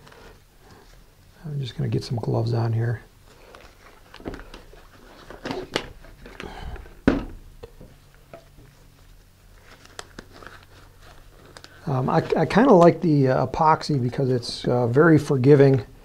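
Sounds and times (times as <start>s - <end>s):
rubber gloves rustling: 0.0s - 15.8s.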